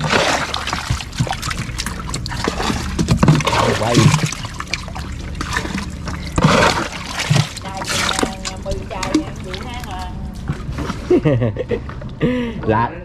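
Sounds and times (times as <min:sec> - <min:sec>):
water splashing and trickling: 0:00.0 - 0:12.5.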